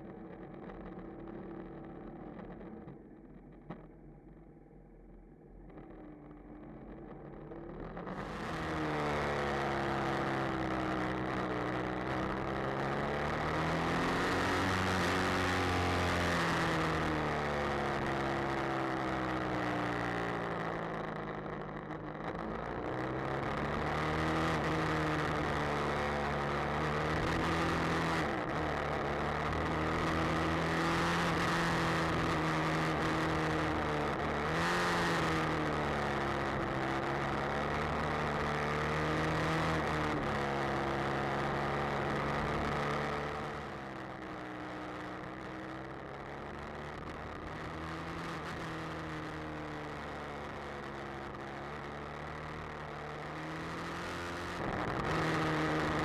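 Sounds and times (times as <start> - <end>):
motorcycle engine accelerating: 5.6 - 56.0.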